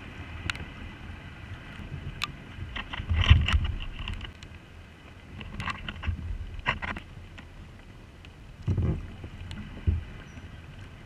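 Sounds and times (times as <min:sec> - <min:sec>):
wind noise on microphone: 0:00.0 - 0:04.4, 0:05.2 - 0:07.7, 0:08.5 - 0:11.0.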